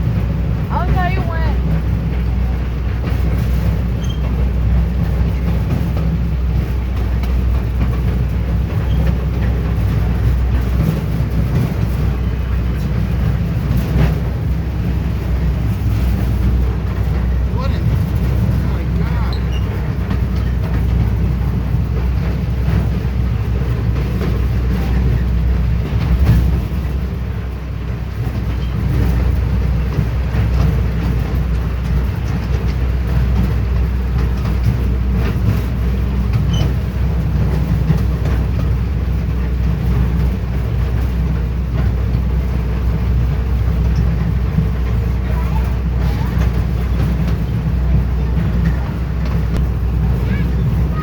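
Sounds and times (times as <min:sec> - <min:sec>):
train rumbling on track: 0:00.0 - 0:51.0.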